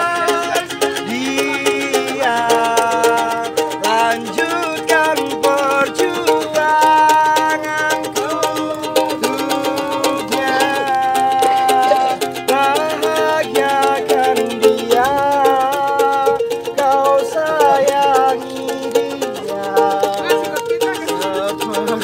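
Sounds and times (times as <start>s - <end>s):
man singing: 0.0s - 22.0s
ukulele strumming: 0.0s - 22.0s.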